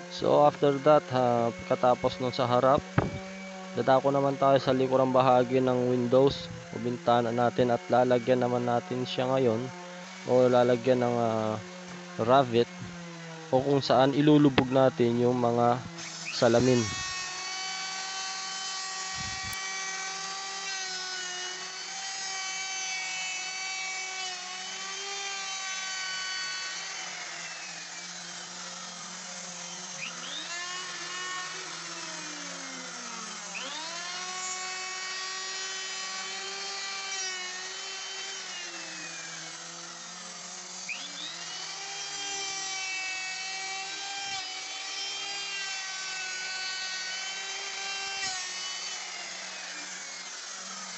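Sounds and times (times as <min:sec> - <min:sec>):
electric router whining: 0:00.0 - 0:50.9.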